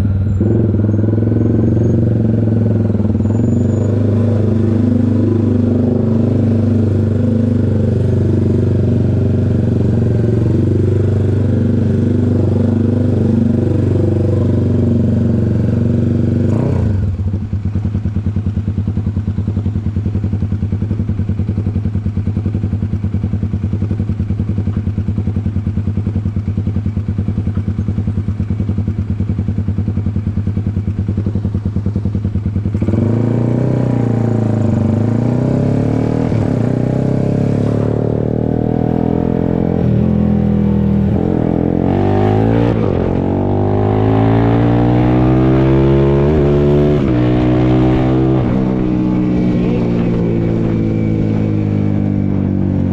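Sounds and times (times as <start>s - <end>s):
motorcycle engine revving and idling: 0.0s - 52.9s.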